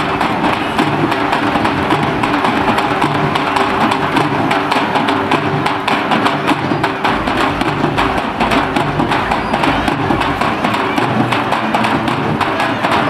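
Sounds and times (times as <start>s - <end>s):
crowd noise: 0.0s - 13.0s
fast dense drumming: 0.0s - 13.0s
music: 0.0s - 13.0s.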